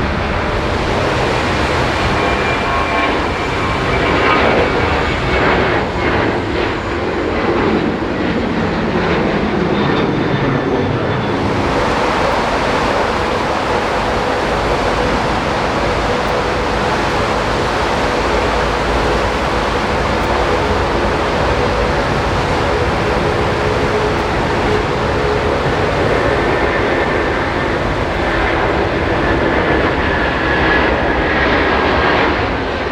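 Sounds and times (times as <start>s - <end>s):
faint steady whine: 0.0s - 9.7s, 11.0s - 31.8s
jet engines running: 0.0s - 32.9s.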